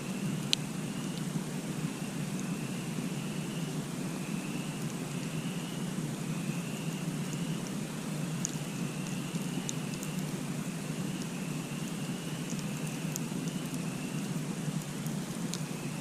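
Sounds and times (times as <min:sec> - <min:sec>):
campfire burning: 0:00.0 - 0:16.0.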